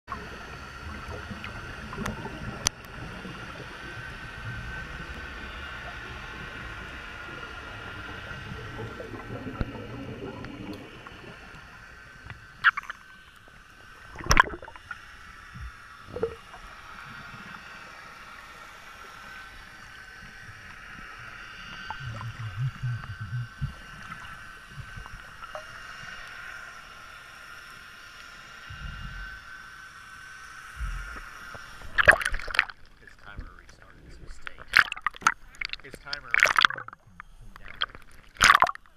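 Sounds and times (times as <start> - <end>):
low water rumble: 0.0 - 38.9
steady underwater hum: 0.0 - 38.9
water gurgling: 0.1 - 26.5, 30.8 - 38.9.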